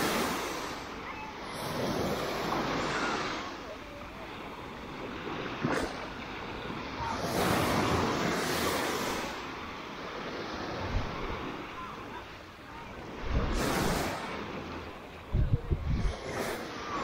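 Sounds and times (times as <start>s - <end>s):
small waves breaking on sand: 0.0s - 17.0s.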